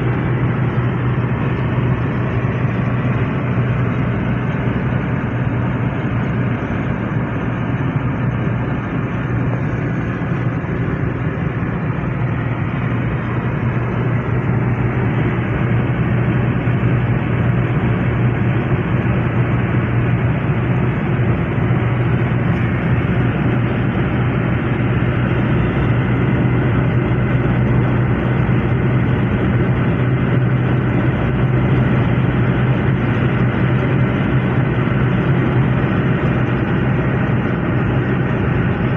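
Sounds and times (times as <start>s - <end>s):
engine and tyre hum: 0.0s - 38.9s.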